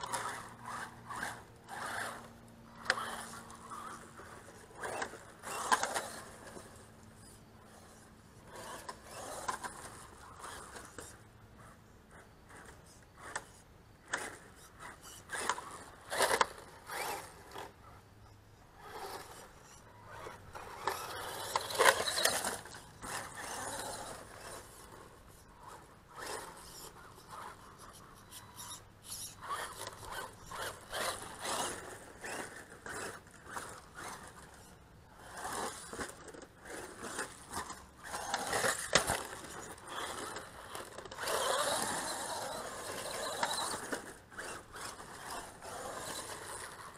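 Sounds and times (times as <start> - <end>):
toy truck tires scraping dirt: 0.0 - 46.9.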